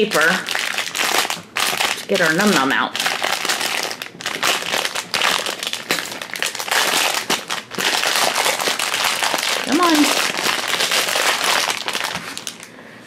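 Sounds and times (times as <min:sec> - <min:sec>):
wrapping paper crinkling: 0:00.0 - 0:12.7.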